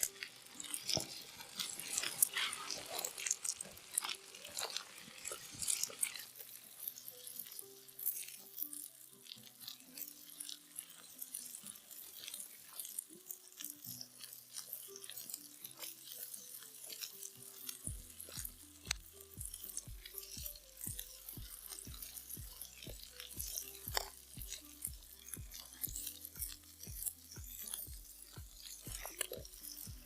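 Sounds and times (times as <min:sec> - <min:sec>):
crisp crackles and crunches: 0:00.0 - 0:30.0
soft slow background music: 0:00.0 - 0:30.0.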